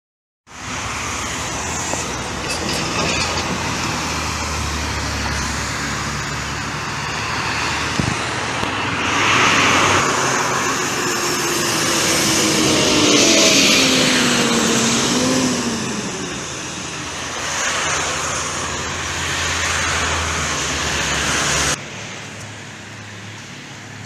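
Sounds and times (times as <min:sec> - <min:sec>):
heavy engine humming: 0:00.5 - 0:21.8
buses and cars passing: 0:00.5 - 0:24.0.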